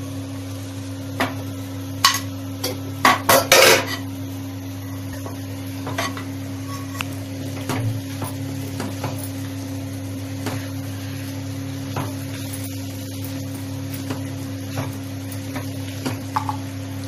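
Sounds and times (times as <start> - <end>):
light sizzle: 0.0 - 17.0
steady low hum: 0.0 - 17.0.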